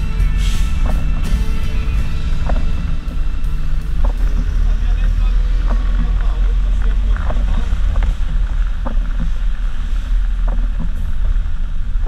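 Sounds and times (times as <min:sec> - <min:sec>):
bodywork rattles and knocks: 0:00.0 - 0:12.0
bus engine rumble: 0:00.0 - 0:12.0
tyre and rain noise: 0:00.0 - 0:12.0.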